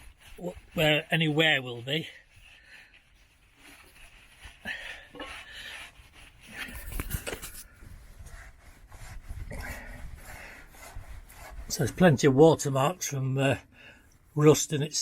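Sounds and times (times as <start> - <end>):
rubbing and scraping on metal: 0.0 - 15.0.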